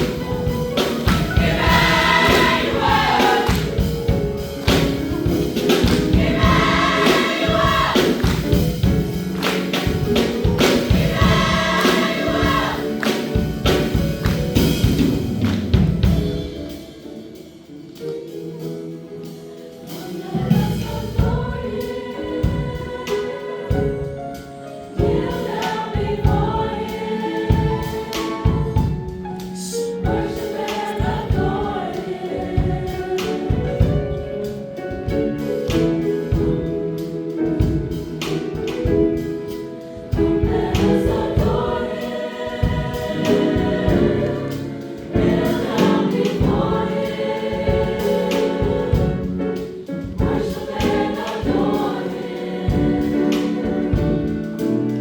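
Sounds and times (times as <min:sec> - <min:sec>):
choir singing: 0:00.0 - 0:55.0
instrumental accompaniment with beat: 0:00.0 - 0:55.0.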